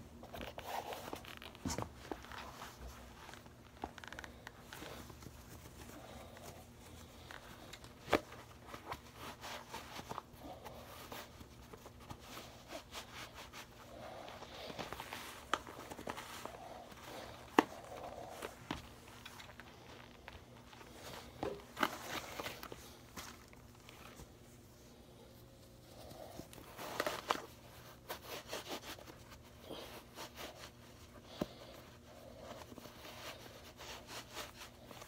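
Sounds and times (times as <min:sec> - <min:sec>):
sock rustling over sneaker: 0:00.1 - 0:35.0.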